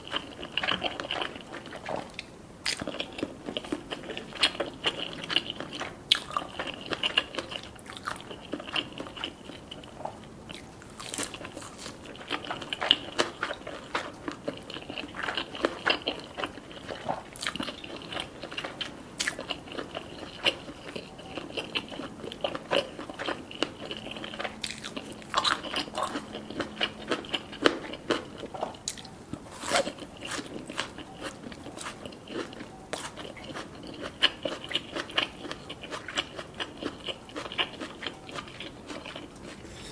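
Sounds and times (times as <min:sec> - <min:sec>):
chewing with crackles and clicks: 0:00.0 - 0:39.9.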